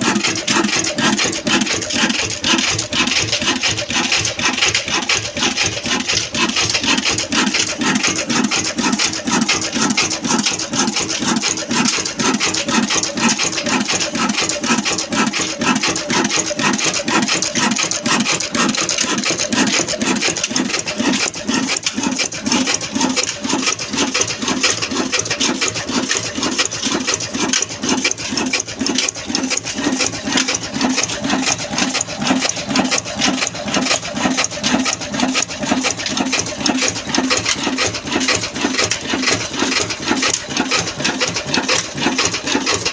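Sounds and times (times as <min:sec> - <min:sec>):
diesel engine clattering: 0:00.0 - 0:42.9.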